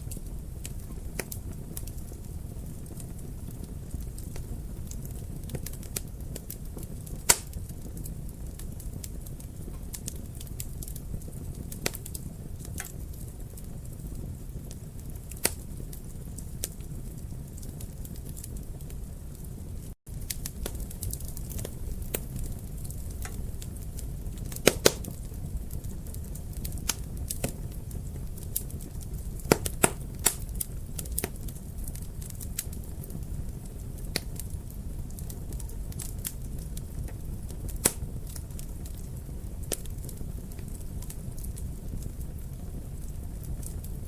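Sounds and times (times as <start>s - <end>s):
fire crackling in fireplace: 0.0s - 44.0s.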